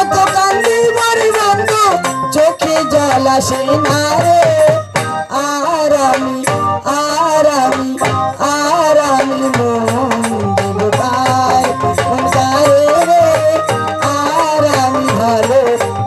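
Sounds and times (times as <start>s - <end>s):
barrel drum beating rhythm: 0.0s - 16.0s
woman singing through microphone: 0.0s - 16.0s.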